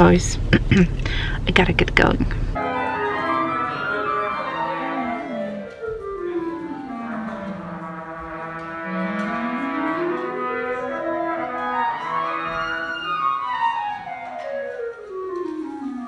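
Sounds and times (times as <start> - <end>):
classical instrumental ensemble: 2.6 - 16.0.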